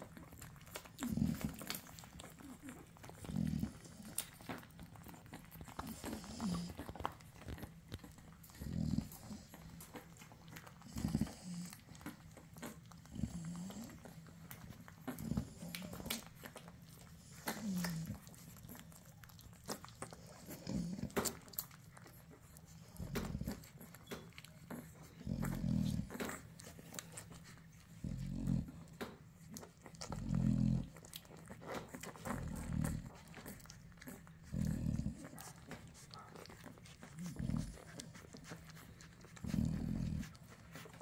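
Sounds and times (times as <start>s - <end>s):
puppies grunting: 0.0s - 41.0s
puppies sucking and smacking: 0.0s - 41.0s.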